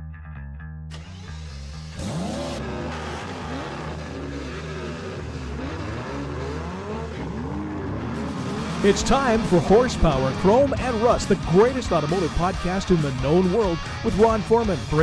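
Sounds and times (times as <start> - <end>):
intro music bass line: 0.0 - 15.0
car engines revving: 0.9 - 15.0.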